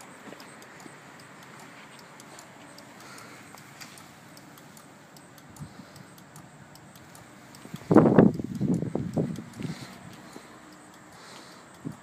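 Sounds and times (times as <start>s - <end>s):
turn-signal flasher ticking: 0.0s - 12.0s.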